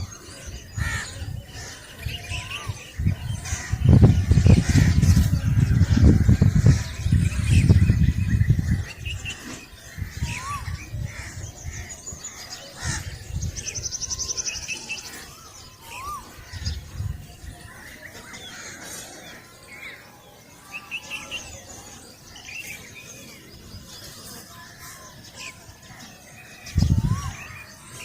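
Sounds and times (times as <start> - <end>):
bird trill: 0.0 - 28.0
birds chirping: 0.0 - 28.0.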